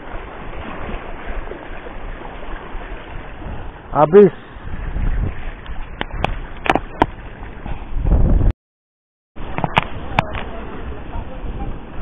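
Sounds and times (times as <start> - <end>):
wind noise on microphone: 0.0 - 8.6, 9.4 - 12.0.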